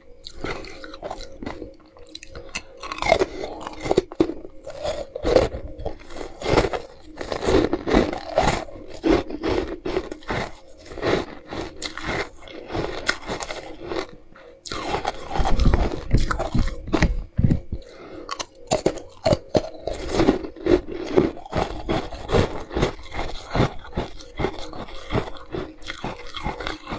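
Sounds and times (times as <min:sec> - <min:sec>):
crunching and chewing ice: 0:00.0 - 0:26.9.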